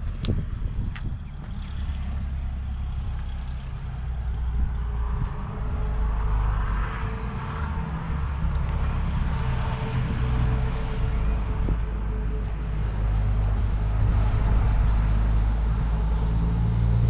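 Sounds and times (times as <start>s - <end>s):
traffic-like wash: 0.0s - 17.0s
wind rumble on microphone: 0.0s - 17.0s.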